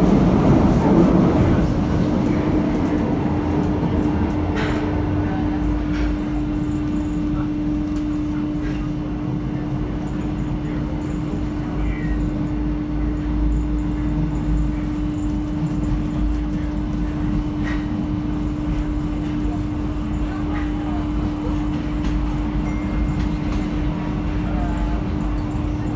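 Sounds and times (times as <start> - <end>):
train rumble and hum: 0.0 - 25.9.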